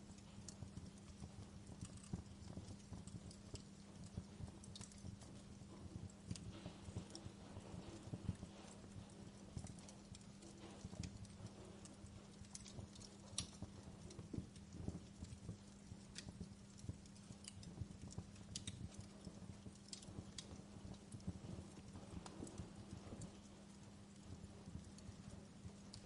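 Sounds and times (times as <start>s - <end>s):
faint steady hum: 0.0s - 26.0s
wood fire crackling: 0.0s - 26.0s.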